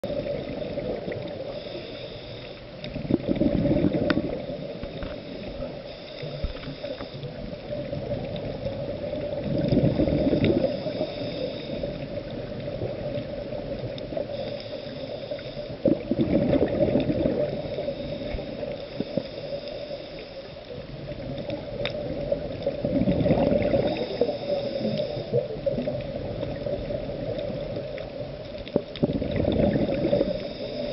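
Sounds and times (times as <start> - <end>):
diver's bubbles gurgling: 0.0 - 1.8, 2.8 - 14.6, 15.7 - 19.7, 20.8 - 30.9
faint clicks: 0.1 - 30.9.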